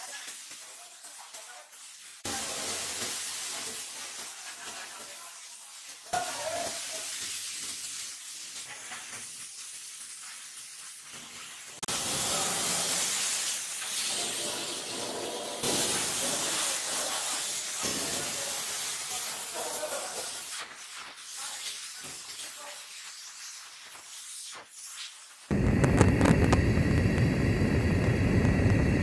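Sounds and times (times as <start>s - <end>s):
compressed air hose hissing: 5.5s - 29.0s.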